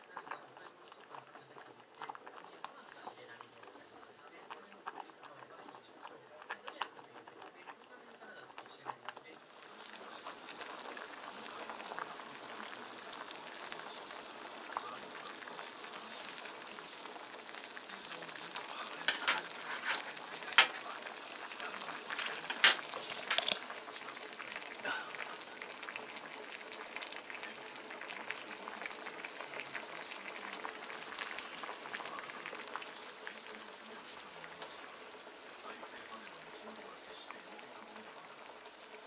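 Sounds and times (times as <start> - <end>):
broth boiling: 0.0 - 39.0.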